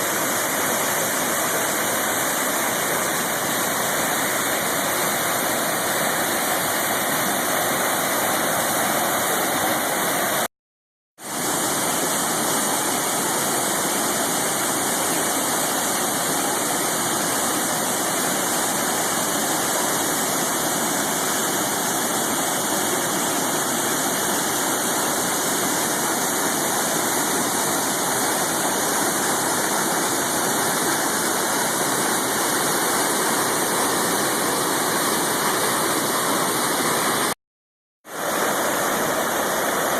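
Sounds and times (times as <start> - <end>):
whitewater rushing over rapids: 0.0 - 10.5, 11.2 - 37.4, 38.1 - 39.9.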